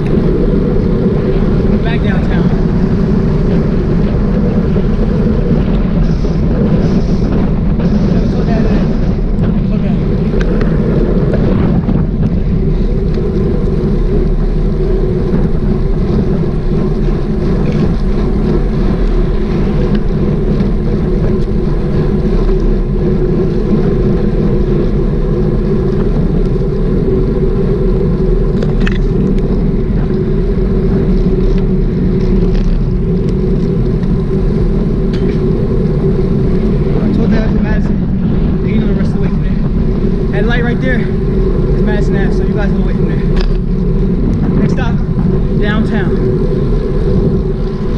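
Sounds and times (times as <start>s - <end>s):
tyre and road rumble: 0.0s - 47.9s
wind buffeting microphone: 0.0s - 47.9s.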